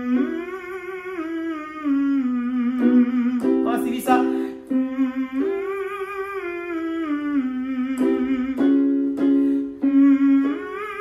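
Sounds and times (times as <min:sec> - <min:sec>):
man humming a scale: 0:00.0 - 0:11.0.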